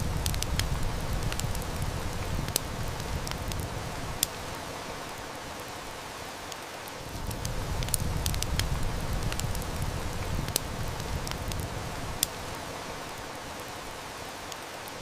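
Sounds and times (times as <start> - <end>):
heavy rain: 0.0 - 15.0
wood fire crackling: 0.0 - 15.0.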